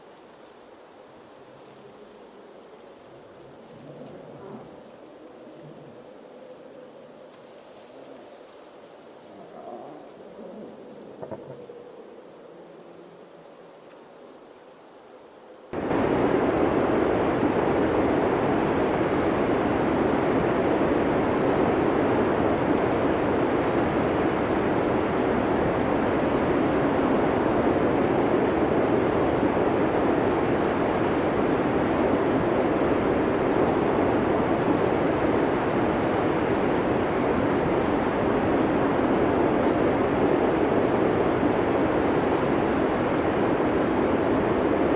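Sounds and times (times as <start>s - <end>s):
blizzard wind rushing: 0.0s - 44.9s.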